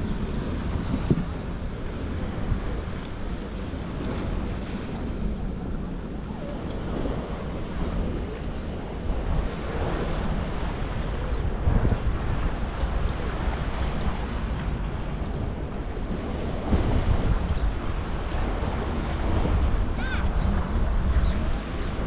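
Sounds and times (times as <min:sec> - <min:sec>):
sea surf: 0:00.0 - 0:22.0
wind buffeting microphone: 0:00.0 - 0:22.0.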